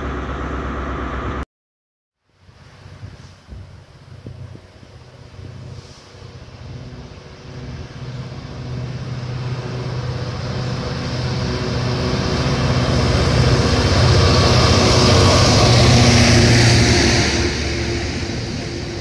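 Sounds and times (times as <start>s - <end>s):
diesel locomotive engine drone: 0.0s - 1.4s, 2.3s - 19.0s
train wheels rushing on rails: 2.6s - 19.0s.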